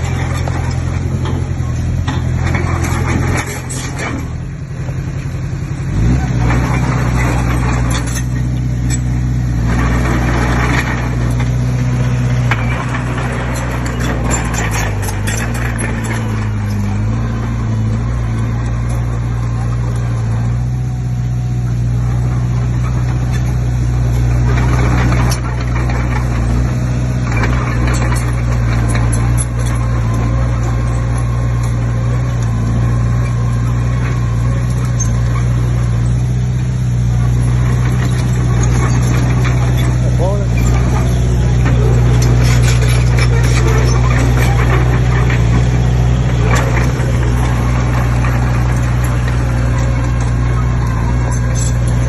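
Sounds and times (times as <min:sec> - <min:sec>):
heavy diesel engine running: 0:00.0 - 0:52.0
rattling and scraping: 0:00.0 - 0:52.0.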